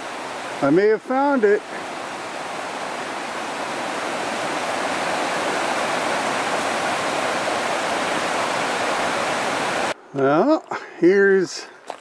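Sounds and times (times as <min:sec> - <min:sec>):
river water rushing over rapids: 0:00.0 - 0:10.0.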